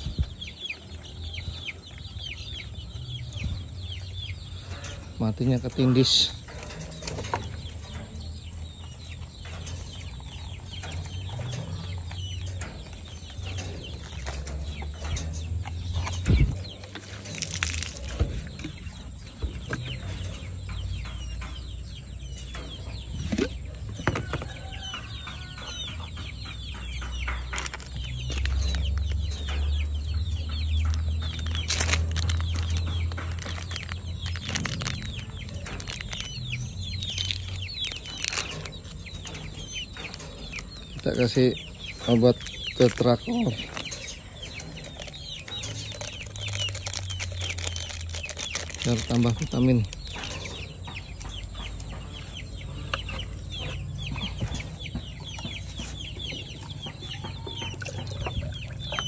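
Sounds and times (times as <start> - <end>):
chickens calling: 0.0 - 59.0.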